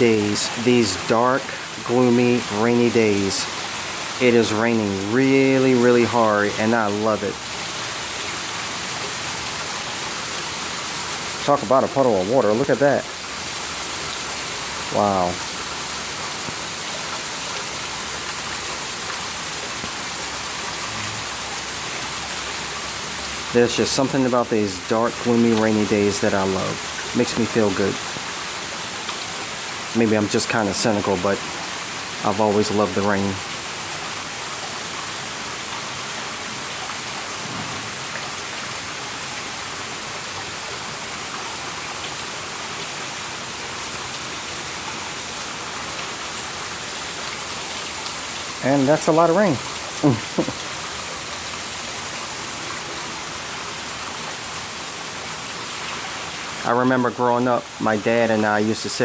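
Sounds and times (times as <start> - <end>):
heavy rain on ground and puddles: 0.0 - 59.0.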